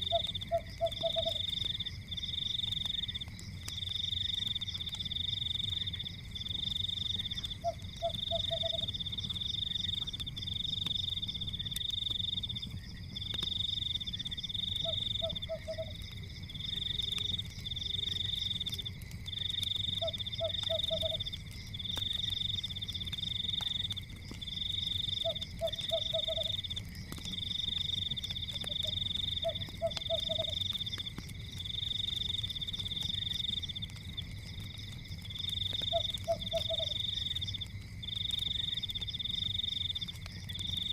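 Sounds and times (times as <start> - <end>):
fire crackling: 0.0 - 40.9.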